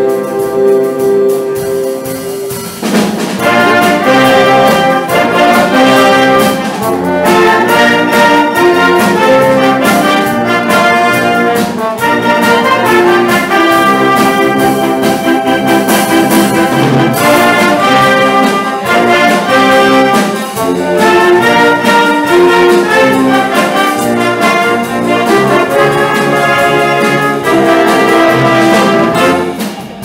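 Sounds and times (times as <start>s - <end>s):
percussion hits: 0.0s - 30.0s
wind band playing: 0.0s - 30.0s.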